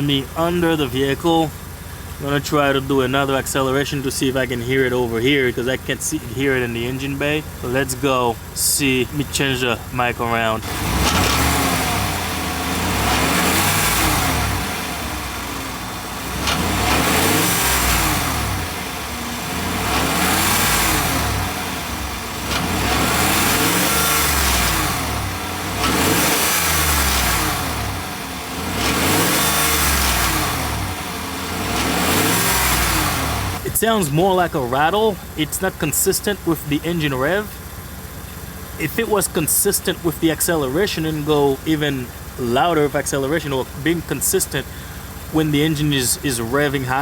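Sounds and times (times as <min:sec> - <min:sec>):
engine revving: 0:00.0 - 0:47.0
exhaust rattle: 0:00.0 - 0:47.0.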